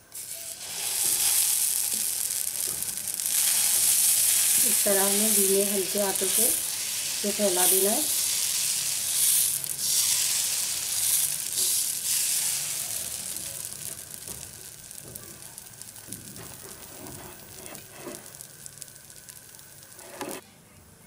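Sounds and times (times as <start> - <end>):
batter sizzling on a hot pan: 0.0 - 20.4.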